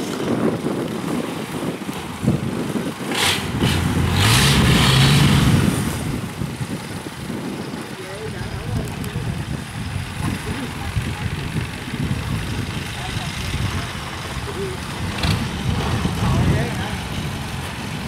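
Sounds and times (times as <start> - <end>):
propeller churning water: 0.0 - 18.0
boat engine revving: 1.9 - 18.0.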